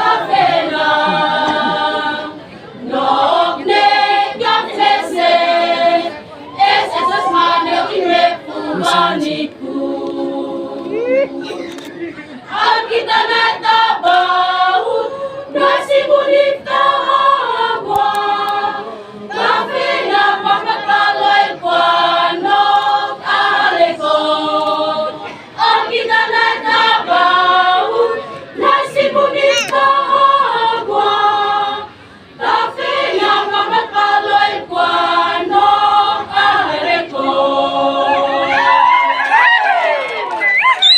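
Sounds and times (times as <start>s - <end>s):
women's choir singing: 0.0s - 11.6s, 12.5s - 39.0s.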